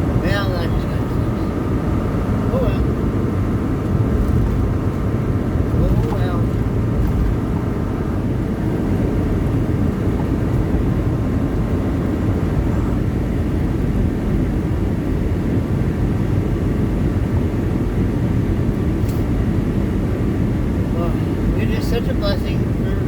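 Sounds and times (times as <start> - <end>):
truck engine and road rumble: 0.0 - 23.0.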